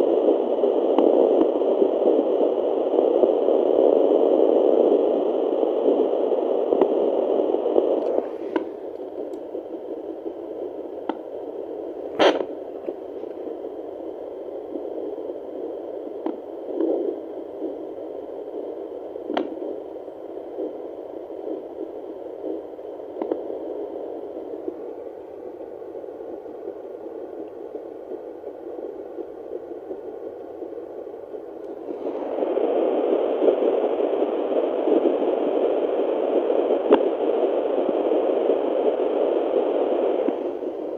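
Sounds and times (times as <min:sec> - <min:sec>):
doppler monitor static hiss: 0:00.0 - 0:40.9.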